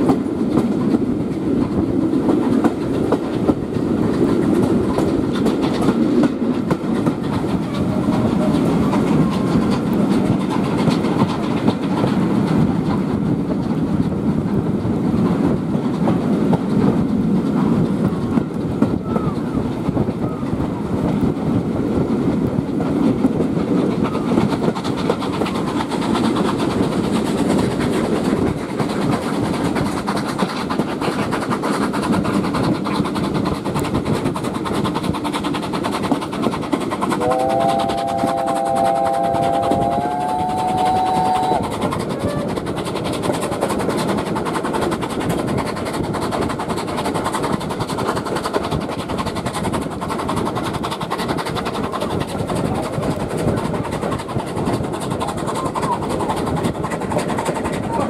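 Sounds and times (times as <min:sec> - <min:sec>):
train rumble: 0:00.0 - 0:58.0
wheels clattering over track: 0:00.0 - 0:58.0.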